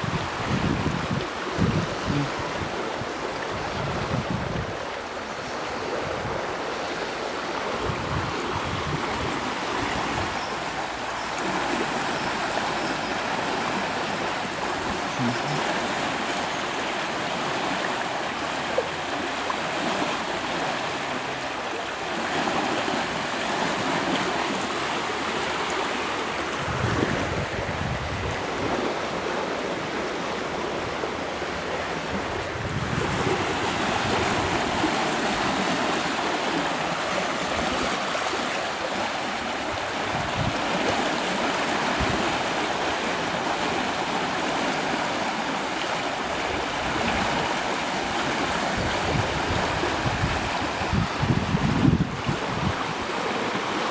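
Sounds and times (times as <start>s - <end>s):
wind buffeting microphone: 0.0s - 16.3s, 16.9s - 53.9s
floodwater rushing: 0.0s - 53.9s.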